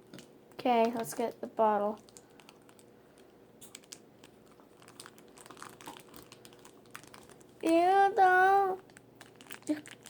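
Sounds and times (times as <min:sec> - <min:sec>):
plastic wrapping crinkling: 0:00.5 - 0:10.0.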